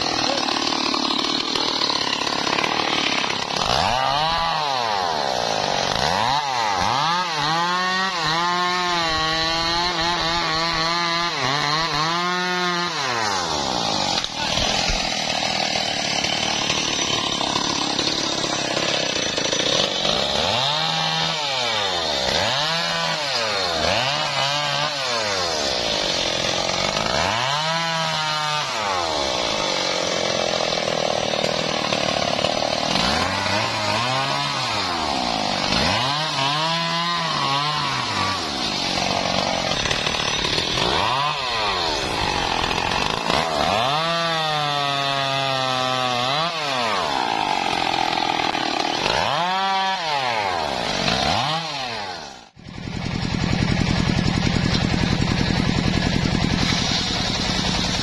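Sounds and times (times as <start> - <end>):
chainsaw revving while cutting: 0.0 - 58.0.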